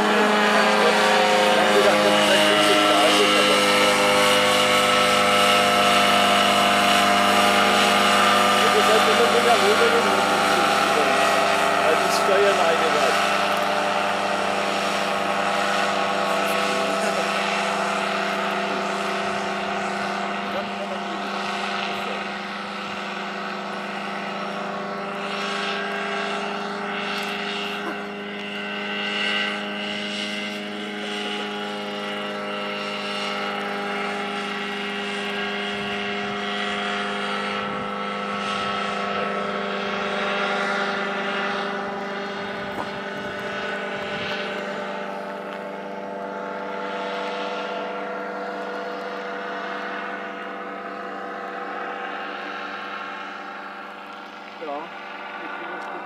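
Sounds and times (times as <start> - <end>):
paramotor engine and propeller droning: 0.0 - 56.0.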